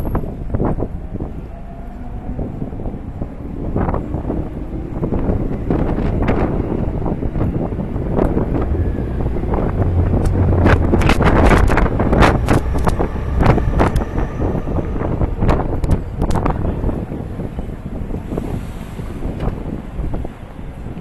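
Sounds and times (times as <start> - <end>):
low rumble of street traffic: 0.0 - 21.0
wind buffeting microphone: 0.0 - 21.0.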